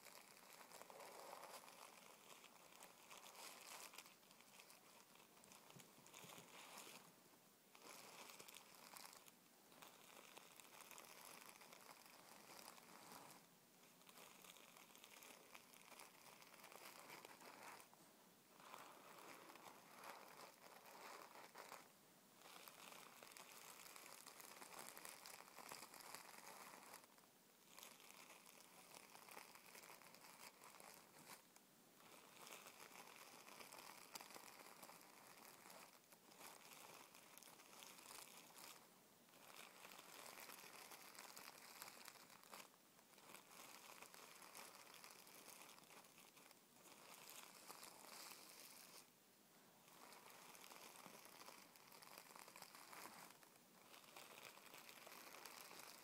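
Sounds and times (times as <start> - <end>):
tissue paper crinkling: 0.0 - 7.1, 7.7 - 49.1, 49.8 - 56.0.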